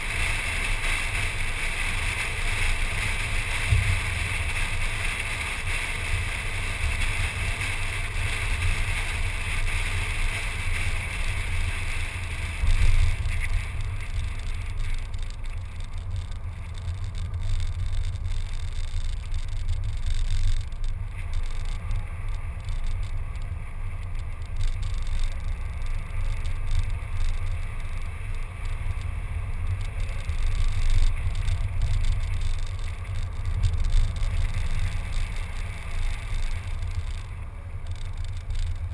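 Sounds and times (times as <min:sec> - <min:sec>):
road and tyre noise: 0:00.0 - 0:38.9
wind rumble on microphone: 0:00.0 - 0:38.9.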